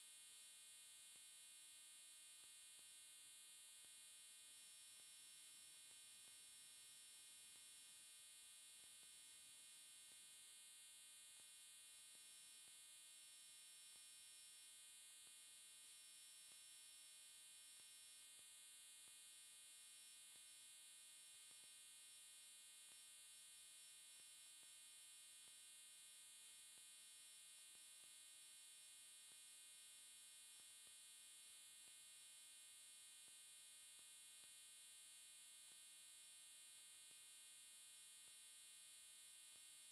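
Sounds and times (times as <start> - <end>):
faint electronic hum and hiss: 0.0 - 39.9.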